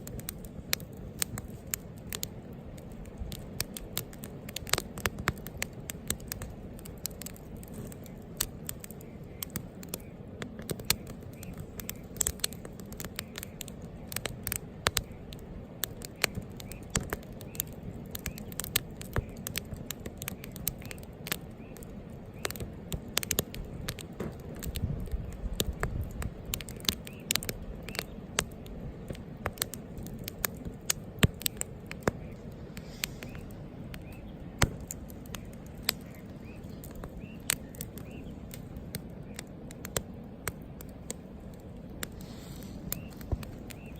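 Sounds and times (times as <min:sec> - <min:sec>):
campfire crackling and popping: 0:00.0 - 0:43.9
low hiss of burning: 0:00.0 - 0:43.9.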